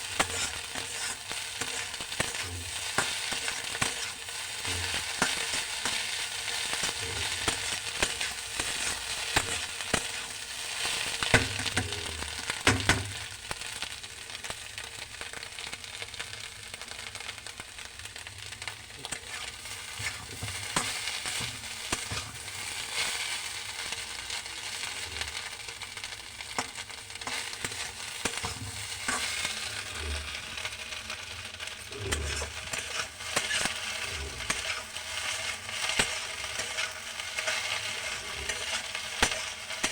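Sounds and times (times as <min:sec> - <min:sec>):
spatula scraping a pan: 0:00.0 - 0:13.6, 0:17.1 - 0:39.9
food sizzling in a pan: 0:00.0 - 0:39.9.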